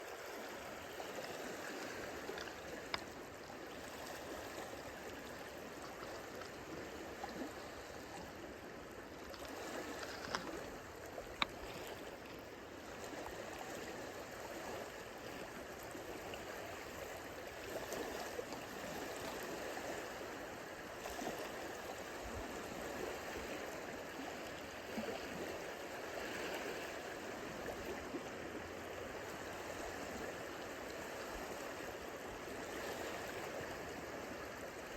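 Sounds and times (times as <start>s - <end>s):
waves lapping at shoreline: 0.0s - 34.9s.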